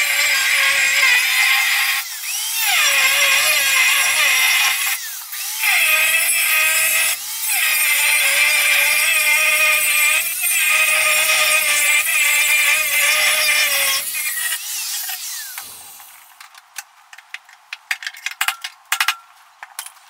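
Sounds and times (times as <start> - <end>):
angle grinder cutting steel: 0.0 - 16.2.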